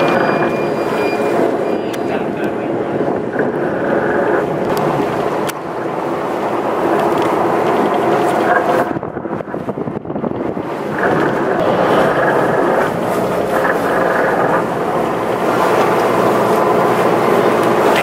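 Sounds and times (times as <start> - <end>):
boat engines idling: 0.0 - 9.6, 10.2 - 18.0
wind buffeting microphone: 1.3 - 18.0.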